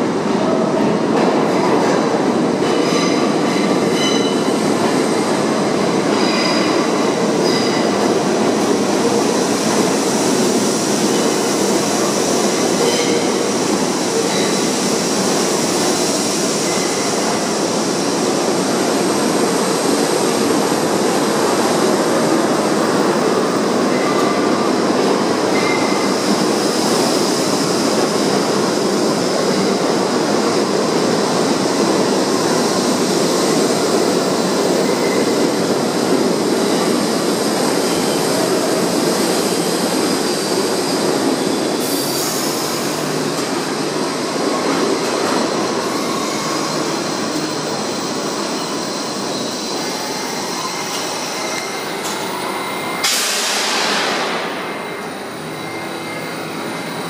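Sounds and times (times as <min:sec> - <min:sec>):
subway train braking: 0:00.0 - 0:57.0
loud air hiss: 0:04.5 - 0:56.8.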